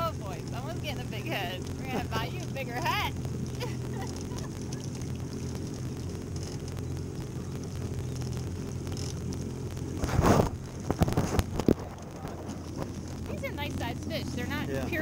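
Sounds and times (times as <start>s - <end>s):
outboard engine idling: 0.0s - 15.0s.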